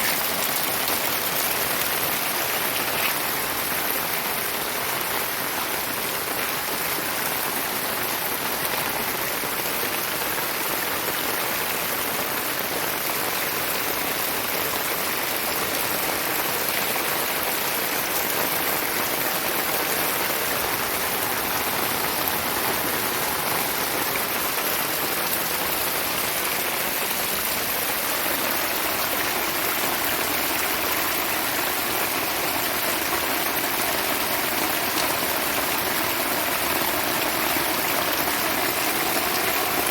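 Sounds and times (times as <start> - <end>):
heavy rain pouring: 0.0 - 39.9
rainwater running off: 0.0 - 39.9.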